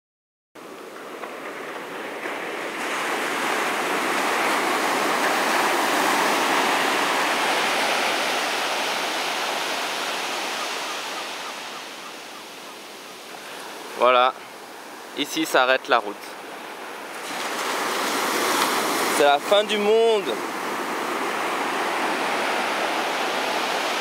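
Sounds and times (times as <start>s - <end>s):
wave washing up a beach: 0.6s - 24.0s.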